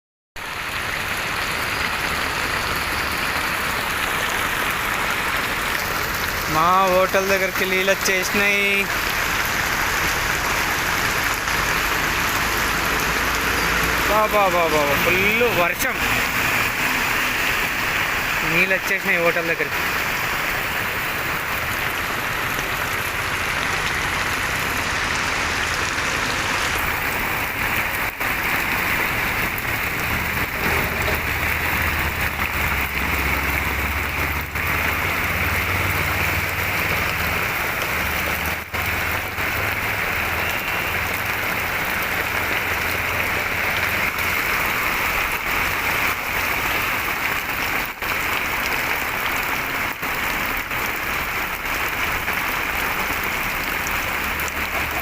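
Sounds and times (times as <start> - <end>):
heavy rain pouring: 0.4 - 55.0.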